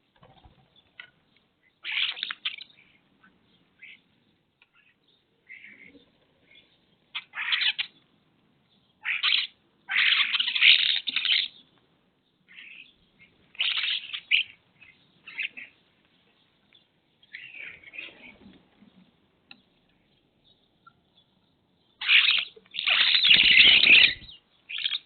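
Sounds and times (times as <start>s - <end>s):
bird calls: 0.0s - 25.0s.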